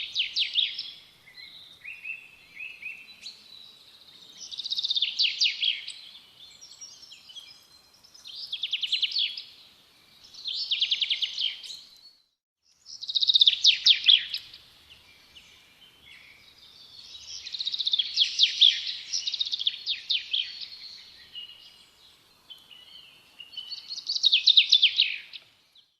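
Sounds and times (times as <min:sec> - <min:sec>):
birds chirping: 0:00.0 - 0:26.0
birds twittering: 0:00.0 - 0:26.0.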